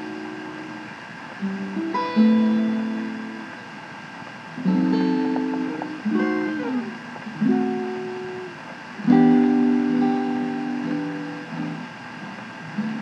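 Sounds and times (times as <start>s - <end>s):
plucked-string chords: 0.0s - 3.6s, 4.5s - 13.0s.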